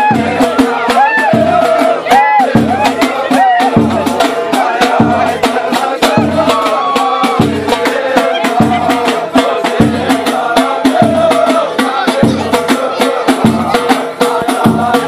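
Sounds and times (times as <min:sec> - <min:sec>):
frame drums beating: 0:00.0 - 0:15.0
men singing in chorus: 0:00.0 - 0:15.0.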